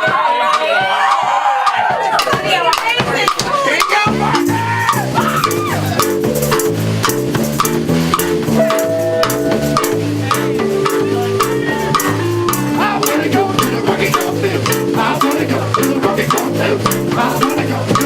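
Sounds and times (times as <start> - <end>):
drum and shaker beat: 0.0 - 18.0
live band playing: 3.1 - 18.0.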